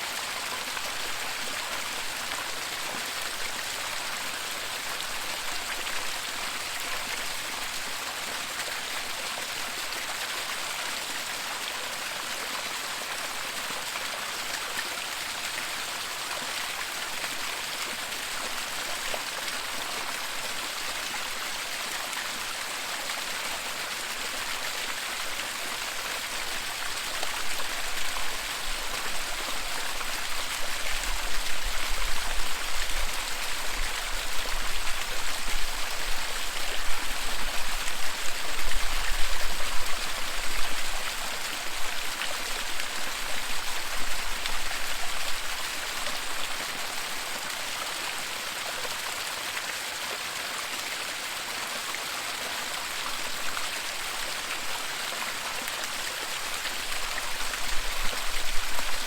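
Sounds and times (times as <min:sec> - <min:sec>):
waterfall rushing and splashing: 0:00.0 - 0:59.0.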